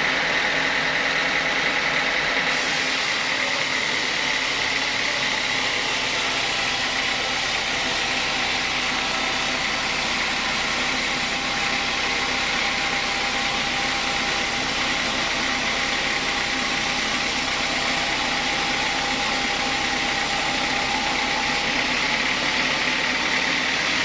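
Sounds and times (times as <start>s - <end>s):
sawmill machinery drone with whine: 0.0s - 24.0s.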